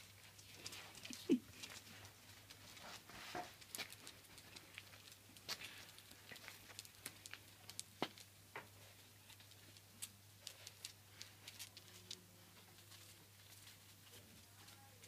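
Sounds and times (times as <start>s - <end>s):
puppy claws pattering on paving: 0.0s - 15.0s.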